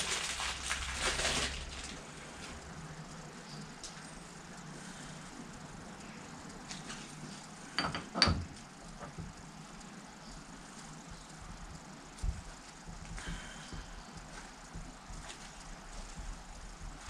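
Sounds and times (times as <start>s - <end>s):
faint steady background: 0.0s - 17.0s.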